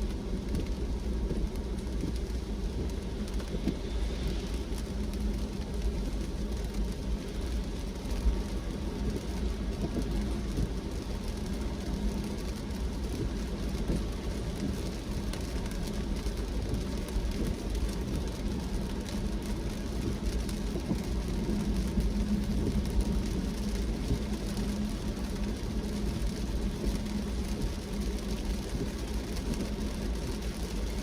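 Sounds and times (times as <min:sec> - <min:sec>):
car driving on wet road: 0:00.0 - 0:31.0
raindrops ticking: 0:00.0 - 0:31.0.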